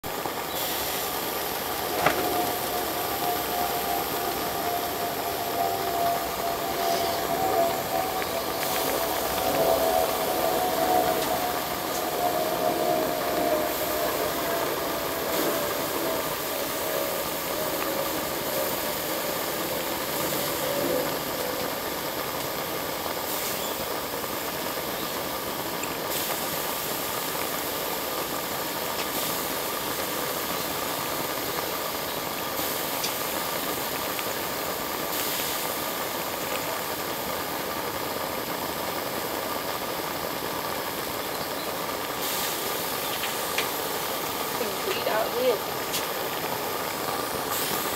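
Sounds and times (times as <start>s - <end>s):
steam engine hissing with whine: 0.0s - 47.9s.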